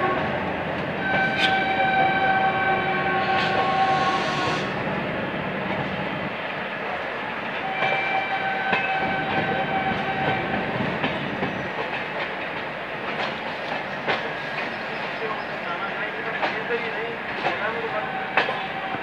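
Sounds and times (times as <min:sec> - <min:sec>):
train rolling noise: 0:00.0 - 0:19.0.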